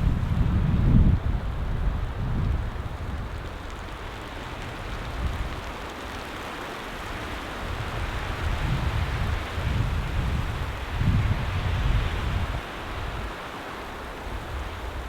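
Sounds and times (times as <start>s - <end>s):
wind gusts on microphone: 0.0s - 15.0s.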